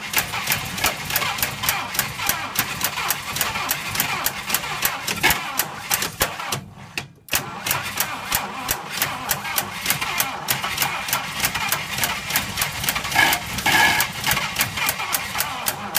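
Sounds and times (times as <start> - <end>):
car engine cranking: 0.0 - 15.9.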